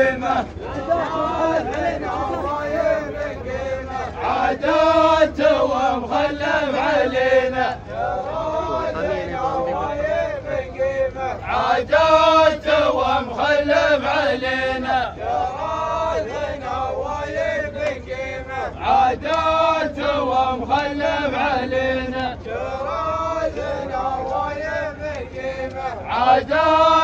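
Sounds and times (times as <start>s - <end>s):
group of men chanting: 0.0s - 27.0s.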